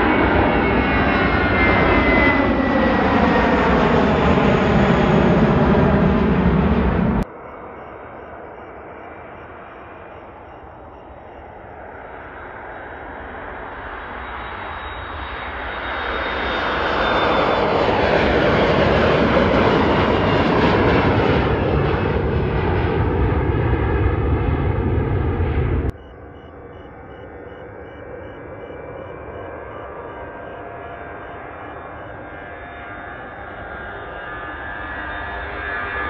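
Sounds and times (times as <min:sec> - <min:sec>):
high engine whine: 0:00.0 - 0:36.0
jet airliner engines at takeoff: 0:00.0 - 0:36.0.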